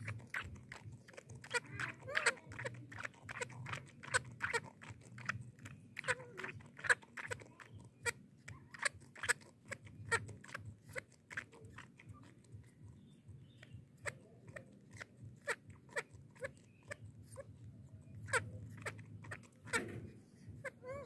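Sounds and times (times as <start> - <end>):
baby monkey sucking from bottle: 0.0 - 21.0.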